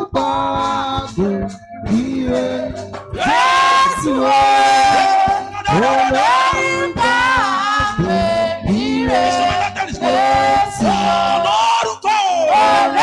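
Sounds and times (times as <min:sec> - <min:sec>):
voices singing a praise song: 0:00.0 - 0:13.0.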